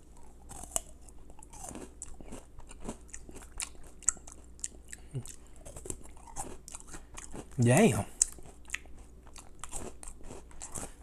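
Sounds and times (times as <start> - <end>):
crunchy cereal chewing: 0.0 - 11.0.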